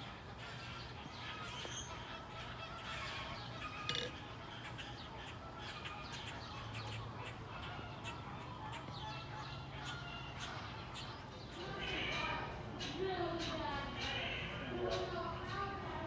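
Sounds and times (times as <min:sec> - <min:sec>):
birds calling and chirping: 0:00.0 - 0:15.8.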